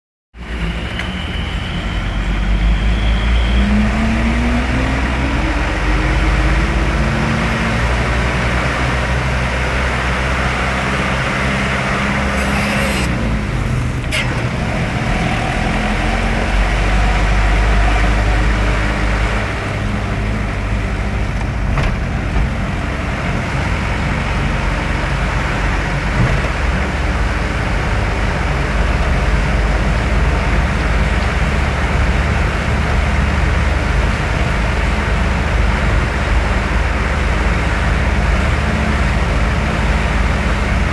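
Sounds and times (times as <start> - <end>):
heavy vehicle engine running: 0.4 - 40.9
tyre and road noise: 0.4 - 40.9.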